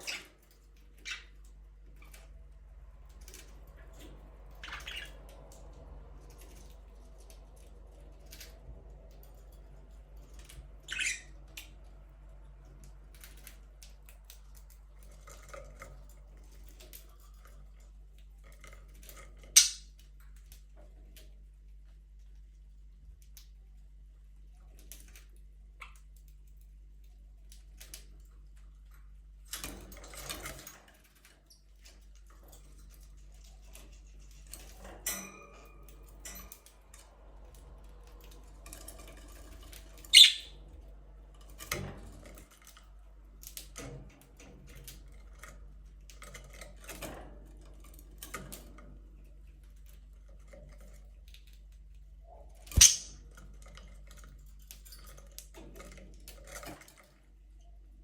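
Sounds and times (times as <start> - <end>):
budgies clicking and rustling: 0.0 - 2.4, 3.1 - 57.4.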